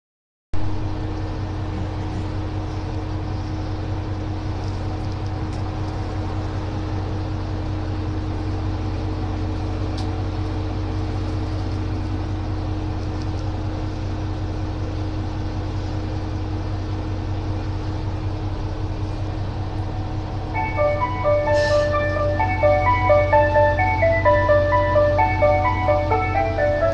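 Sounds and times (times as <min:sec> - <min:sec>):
constant hum: 0:00.6 - 0:26.9
diesel railcar engine idling: 0:00.6 - 0:26.9.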